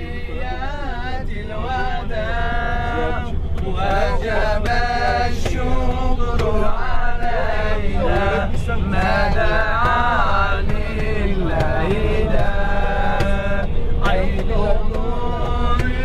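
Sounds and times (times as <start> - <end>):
bus rumble: 0.0 - 16.0
men chanting a song: 0.0 - 16.0.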